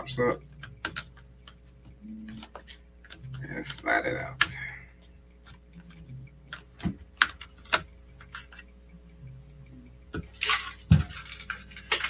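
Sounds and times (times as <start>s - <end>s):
memory modules clicking: 0.0s - 12.0s.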